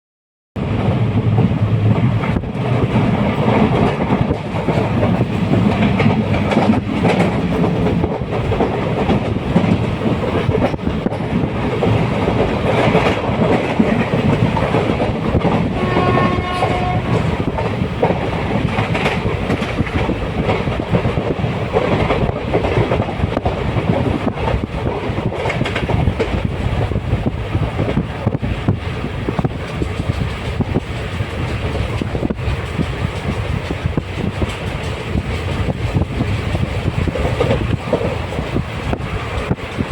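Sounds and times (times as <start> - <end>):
train rumbling on rails: 0.6 - 39.9
wheels clacking over rail joints: 0.7 - 28.5, 29.2 - 39.9.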